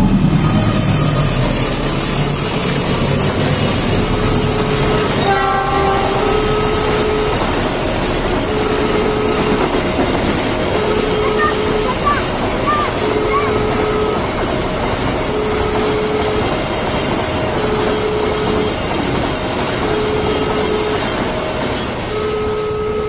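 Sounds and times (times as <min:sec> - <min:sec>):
freight train wheels on rail: 0:00.0 - 0:23.0
train horn blast: 0:02.4 - 0:23.0.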